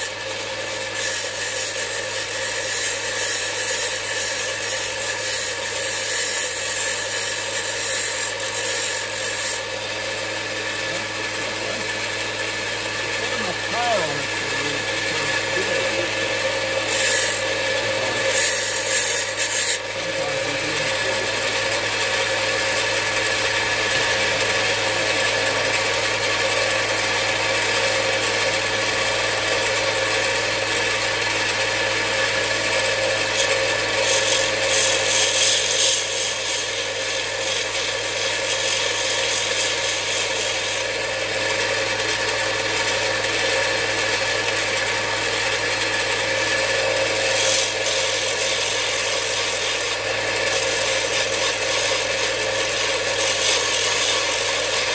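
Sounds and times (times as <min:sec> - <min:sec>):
bench grinder running: 0:00.0 - 0:54.9
metal grinding on abrasive belt: 0:00.0 - 0:54.9.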